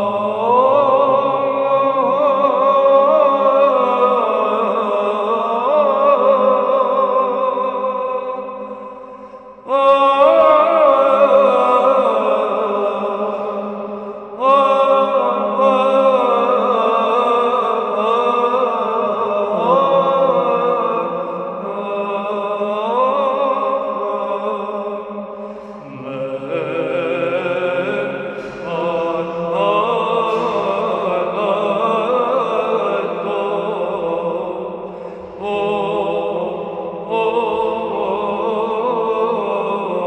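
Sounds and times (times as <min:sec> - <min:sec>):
held vocal drone: 0:00.0 - 0:40.0
person chanting ornamented melody: 0:00.0 - 0:40.0.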